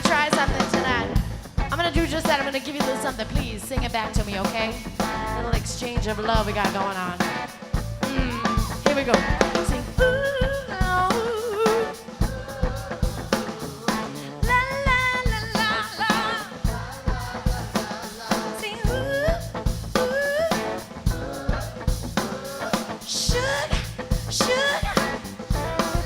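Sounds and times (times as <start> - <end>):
live rock band playing: 0.0 - 26.0
woman singing vocal runs: 0.0 - 26.0.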